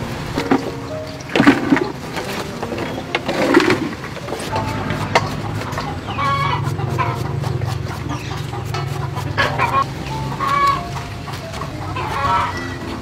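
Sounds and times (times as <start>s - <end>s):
chickens clucking: 0.4s - 13.0s.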